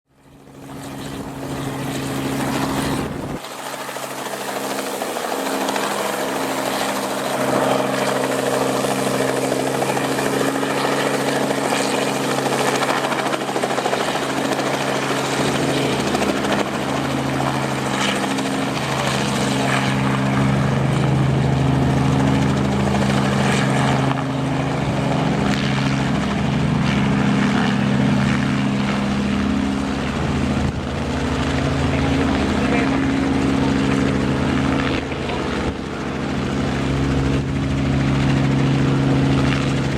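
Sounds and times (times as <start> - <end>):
helicopter engine and rotor drone: 0.1 - 39.9.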